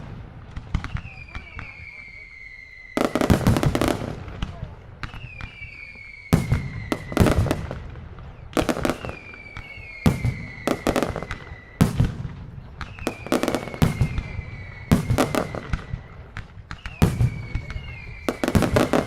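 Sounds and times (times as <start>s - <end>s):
firecrackers banging: 0.0s - 19.0s
whistling tone: 0.7s - 3.7s, 5.0s - 7.6s, 8.2s - 12.0s, 12.6s - 19.0s.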